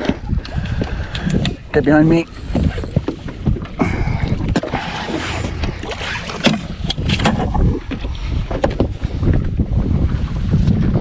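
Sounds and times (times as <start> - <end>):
boat noise: 0.0 - 11.0
knocks and clatter on boat: 0.0 - 11.0
wind rumble: 0.0 - 11.0.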